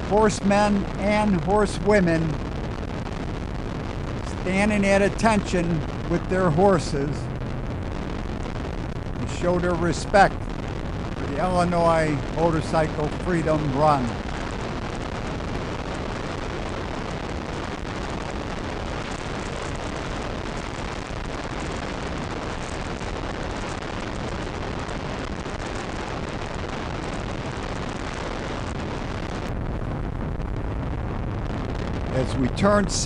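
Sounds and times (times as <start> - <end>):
wind over microphone: 0.0 - 33.0.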